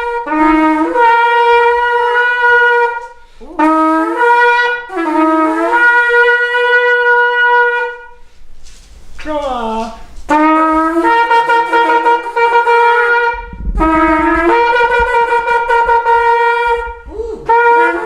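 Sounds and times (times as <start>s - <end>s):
shofar blasts: 0.0s - 8.5s, 10.1s - 18.0s.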